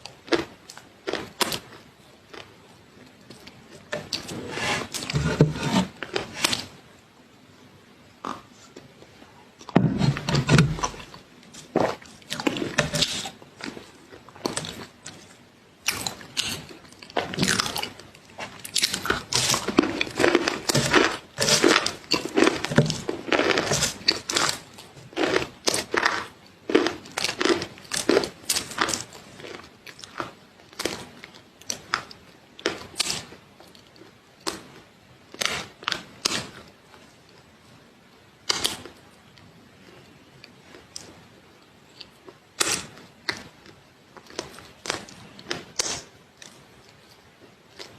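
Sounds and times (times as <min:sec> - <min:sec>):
crunchy food being chewed: 0:00.0 - 0:06.8, 0:09.6 - 0:37.5, 0:38.4 - 0:47.9.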